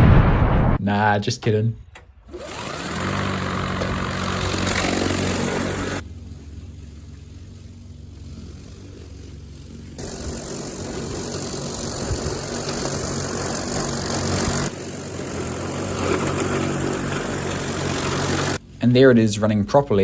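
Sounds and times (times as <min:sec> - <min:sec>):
mower rushing noise: 0:02.2 - 0:19.6
low motor hum: 0:02.2 - 0:19.7.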